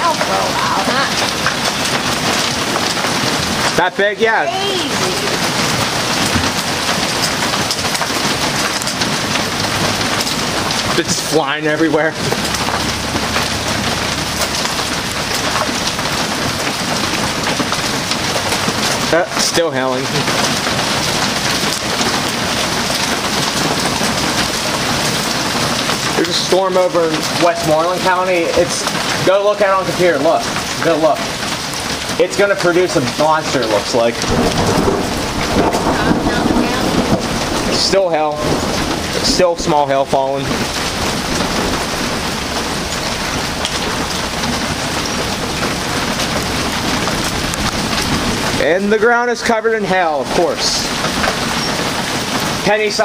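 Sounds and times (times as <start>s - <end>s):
hail and rain hitting surfaces: 0.0s - 53.0s.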